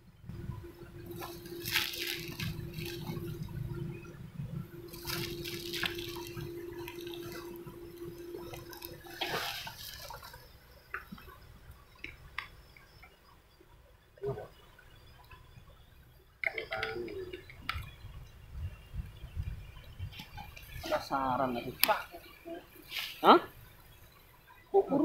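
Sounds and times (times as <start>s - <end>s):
steady low hum: 0.0s - 25.0s
water splashing and sloshing: 0.2s - 24.6s.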